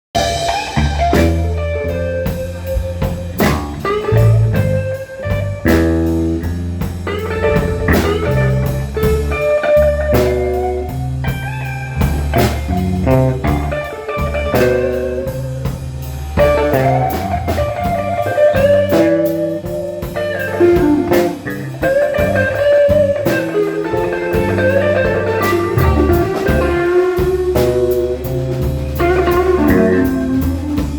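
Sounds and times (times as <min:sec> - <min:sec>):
bass: 0:00.0 - 0:30.9
blues guitar: 0:00.1 - 0:30.9
drum kit beat: 0:00.1 - 0:30.9.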